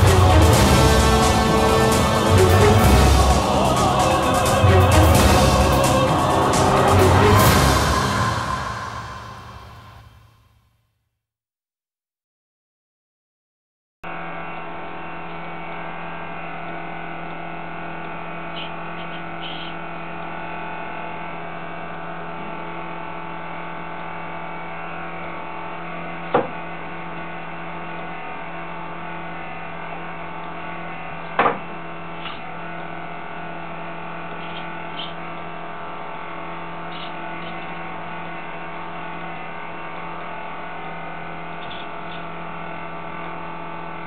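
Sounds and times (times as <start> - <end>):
electrical hum: 0.0 - 10.2, 14.1 - 44.0.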